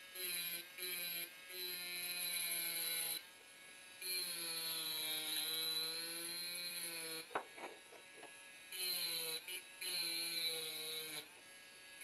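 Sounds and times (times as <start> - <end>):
rotary tool grinding glass: 0.2 - 3.2, 4.0 - 11.3.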